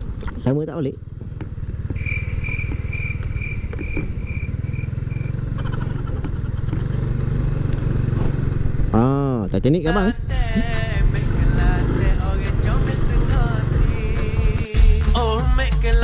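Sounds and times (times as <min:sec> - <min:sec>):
small motorcycle engine running: 0:00.0 - 0:14.4.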